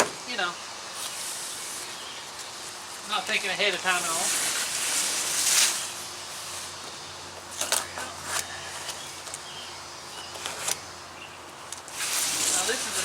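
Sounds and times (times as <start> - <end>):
rustling hiss: 0.0 - 13.0.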